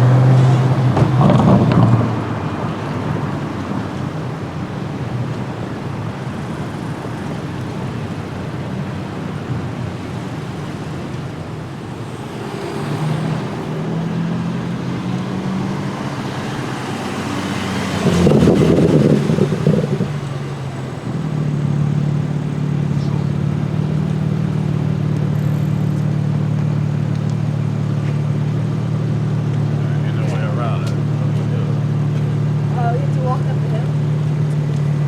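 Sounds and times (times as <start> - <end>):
car passing close: 0.0 - 35.0
low engine note: 0.0 - 35.0
road hum: 0.0 - 35.0.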